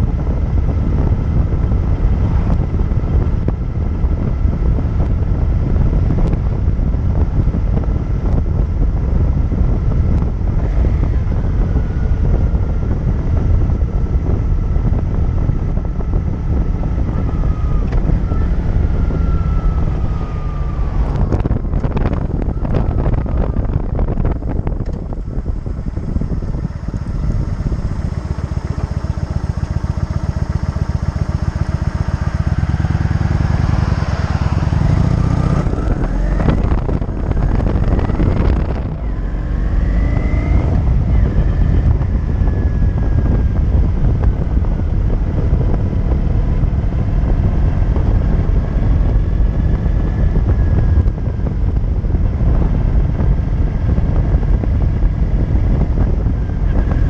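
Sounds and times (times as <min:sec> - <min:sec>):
motorcycle engine accelerating: 0:00.0 - 0:57.0
wind noise on microphone: 0:00.0 - 0:57.0.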